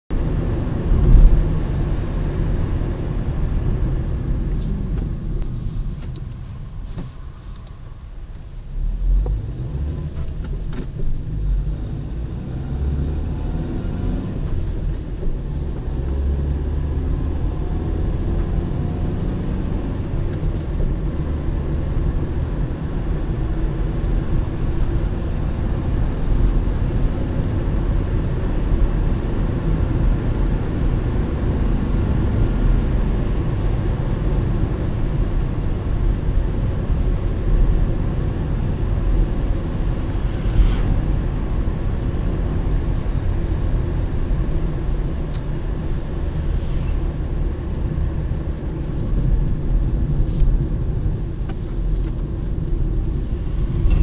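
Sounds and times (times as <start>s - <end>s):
car engine running: 0.1s - 54.0s.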